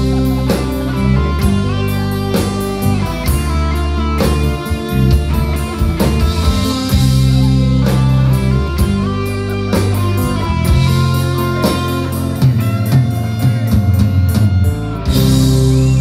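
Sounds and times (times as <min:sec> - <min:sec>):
bass guitar: 0:00.0 - 0:16.0
drum kit beat: 0:00.0 - 0:16.0
electric guitars: 0:00.0 - 0:16.0.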